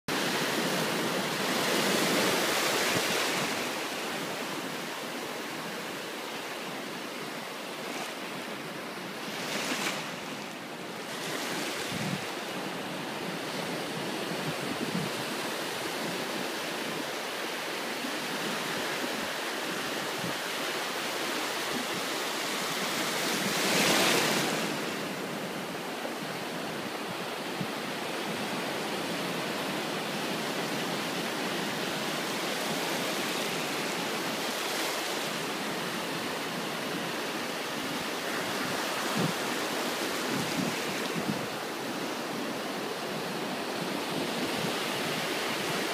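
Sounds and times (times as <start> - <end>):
waves washing over sand: 0.1 - 45.9.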